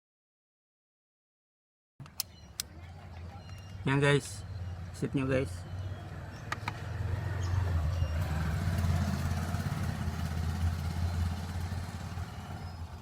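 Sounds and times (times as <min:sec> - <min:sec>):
vehicle engine humming: 0:02.0 - 0:13.0.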